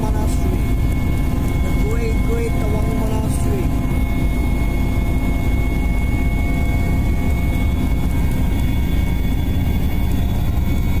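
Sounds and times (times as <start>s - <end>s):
helicopter rotor and engine rumble: 0.0s - 11.0s
high turbine whine: 0.0s - 11.0s.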